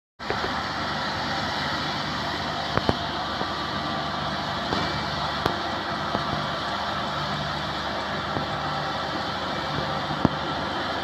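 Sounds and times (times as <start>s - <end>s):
diesel engine running: 0.2s - 11.0s.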